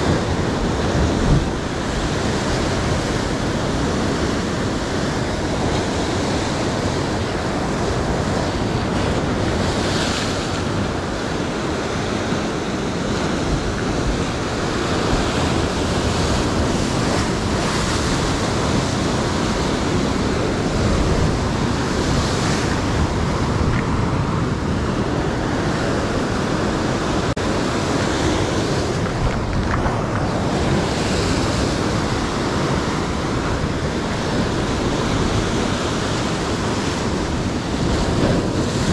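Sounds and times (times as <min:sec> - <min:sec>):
ocean surf breaking on rocks: 0:00.0 - 0:38.9.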